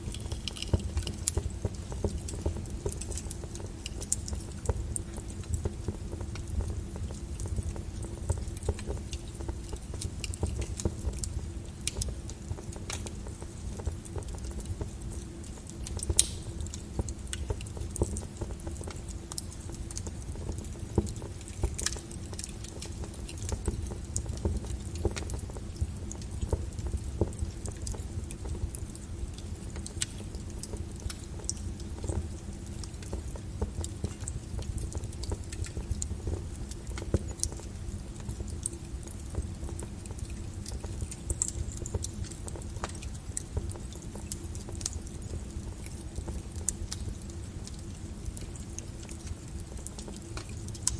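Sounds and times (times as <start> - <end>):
low fire rumble: 0.0 - 50.9
wood fire crackling and popping: 0.0 - 50.9.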